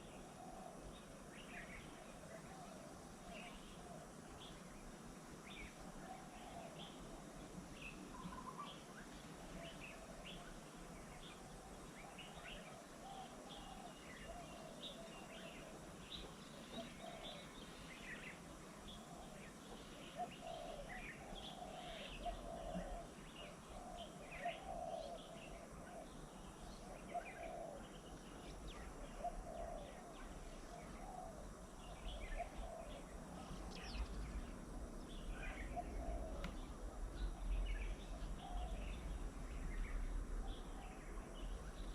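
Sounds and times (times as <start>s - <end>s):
birds chirping: 7.7s - 41.9s.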